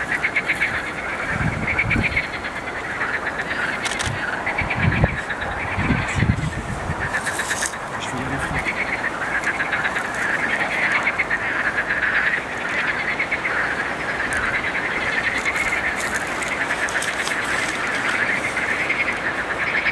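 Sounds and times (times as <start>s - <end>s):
chorus of frogs croaking: 0.0s - 19.9s.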